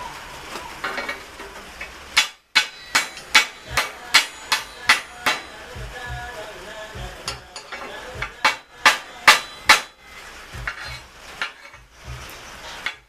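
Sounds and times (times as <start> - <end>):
hammer striking steel: 2.1 - 13.0.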